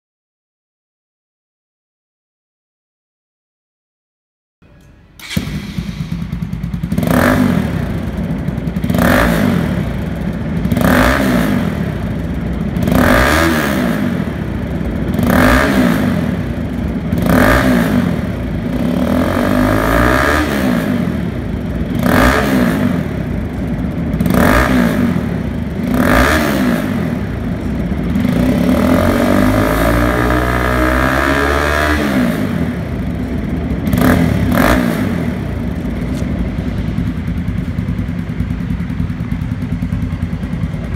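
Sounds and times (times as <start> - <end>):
motorcycle engine idling and revving: 4.7 - 40.9.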